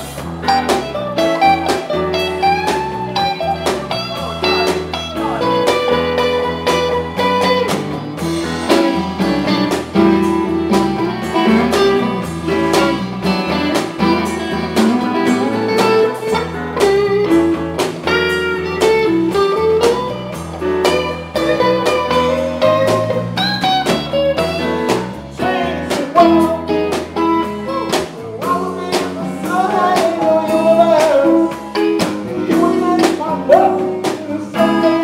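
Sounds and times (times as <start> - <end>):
bending guitar notes: 0.0 - 35.0
blues band playing: 0.0 - 35.0.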